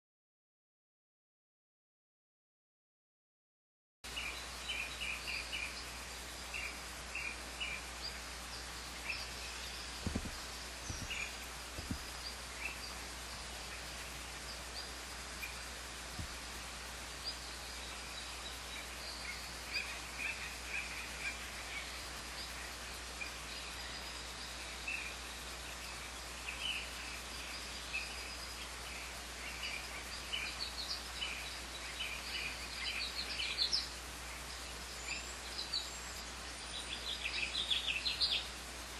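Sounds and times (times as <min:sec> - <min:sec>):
small birds chirping: 0:04.0 - 0:38.9
steady hiss: 0:04.0 - 0:38.9
constant low hum: 0:04.1 - 0:38.9.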